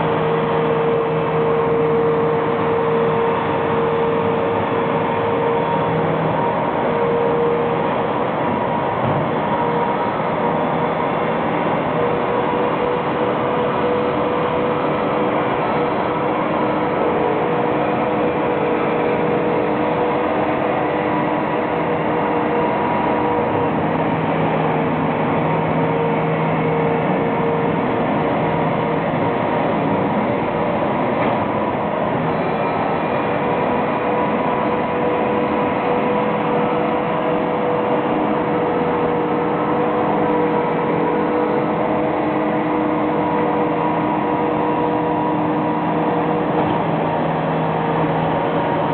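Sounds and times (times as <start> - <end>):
sweeper engine drone: 0.0 - 48.9.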